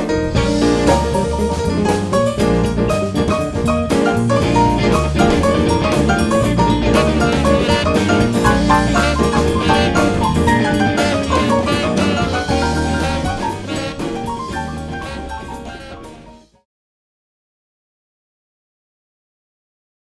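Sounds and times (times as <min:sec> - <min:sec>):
drum kit: 0:00.0 - 0:16.6
live band playing: 0:00.0 - 0:16.6.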